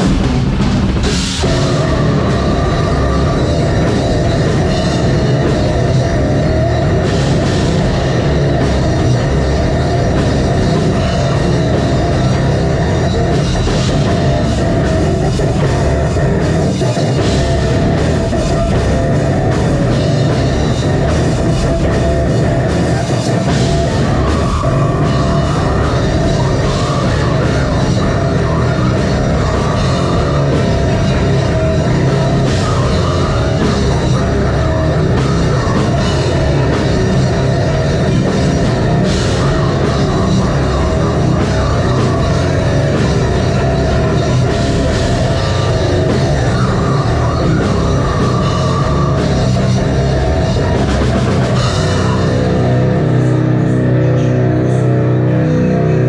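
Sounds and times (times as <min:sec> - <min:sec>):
heavy metal band playing: 0:00.0 - 0:56.0.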